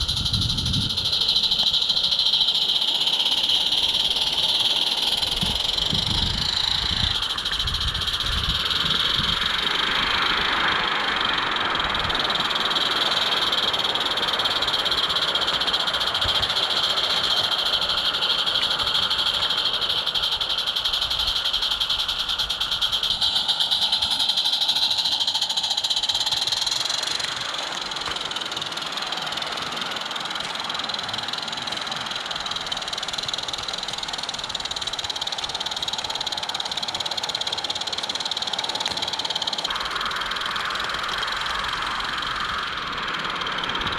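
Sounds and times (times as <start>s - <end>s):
model steam train clatter: 0.0s - 43.9s.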